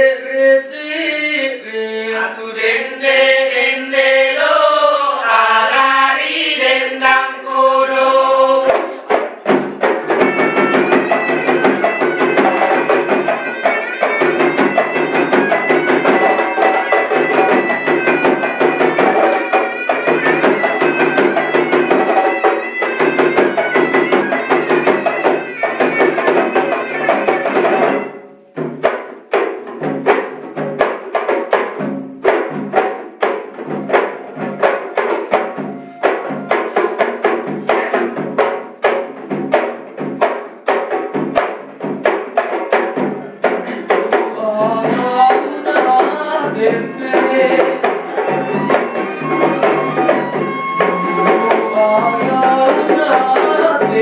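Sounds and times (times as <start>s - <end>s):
drums in spaced strokes: 5.4s - 54.0s
hand drums with melody: 5.6s - 54.0s.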